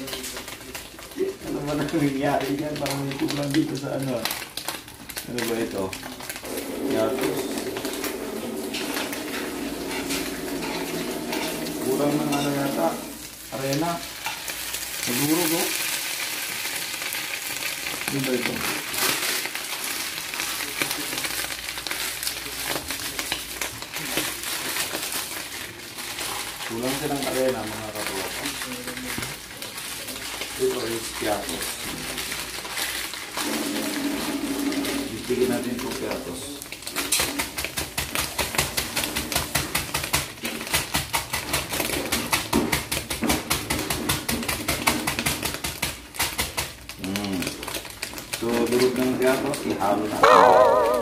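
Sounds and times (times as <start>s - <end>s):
food sizzling in hot oil: 0.0s - 40.6s, 43.3s - 51.0s.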